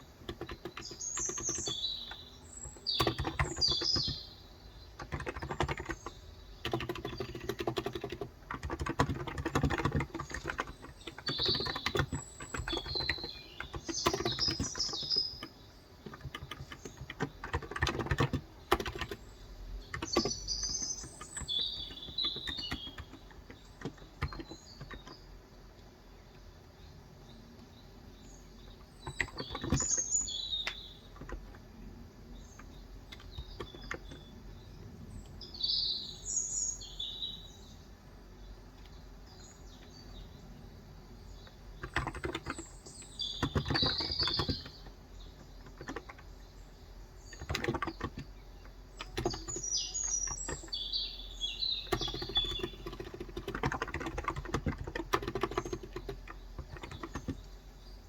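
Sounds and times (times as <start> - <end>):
birds chirping: 0.0 - 58.0
keyboard typing: 0.2 - 25.3, 28.6 - 31.9, 32.5 - 35.0, 41.4 - 46.5, 47.2 - 58.0.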